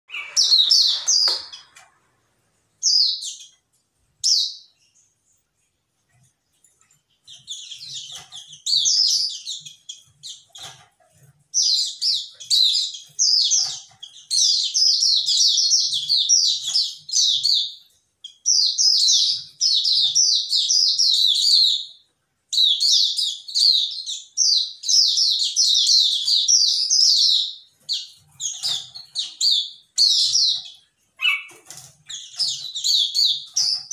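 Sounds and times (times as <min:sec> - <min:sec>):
songbirds chirping and twittering: 0:00.0 - 0:33.9.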